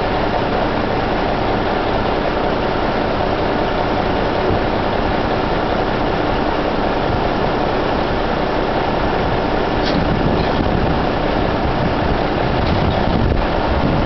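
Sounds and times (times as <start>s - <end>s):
heavy crane engine running: 0.0s - 14.0s.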